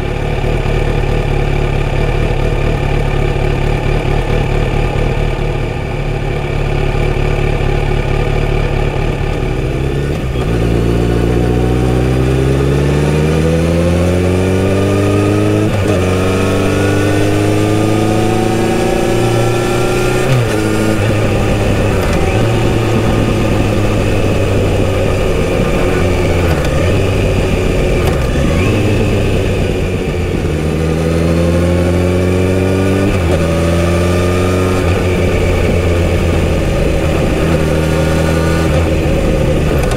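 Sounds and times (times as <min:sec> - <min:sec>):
motorcycle engine revving and accelerating: 0:00.0 - 0:39.9.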